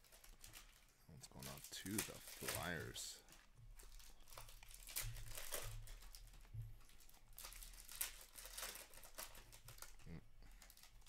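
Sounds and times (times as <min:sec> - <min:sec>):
trading cards rustling and flicking: 0:00.0 - 0:10.0.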